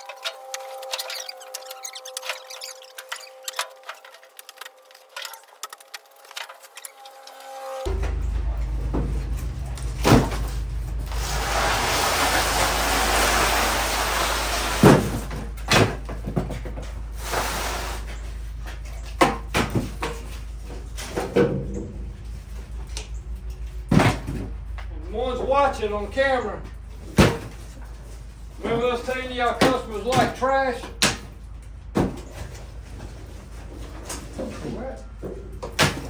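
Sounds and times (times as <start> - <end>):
steady low hum: 0.0 - 29.4.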